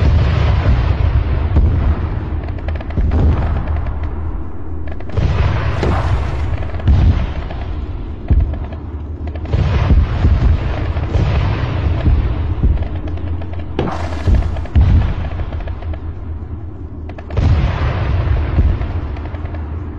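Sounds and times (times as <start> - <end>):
gunfire and explosions: 0.0 - 19.9
heavy low rumble: 0.0 - 19.9.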